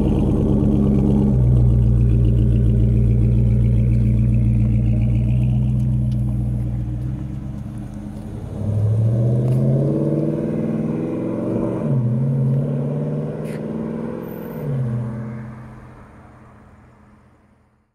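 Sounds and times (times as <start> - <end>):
car engine accelerating: 0.0 - 17.3.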